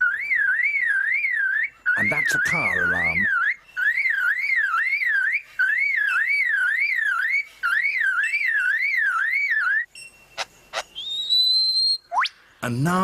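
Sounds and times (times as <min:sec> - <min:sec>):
bird mimicking car alarm: 0:00.0 - 0:12.4.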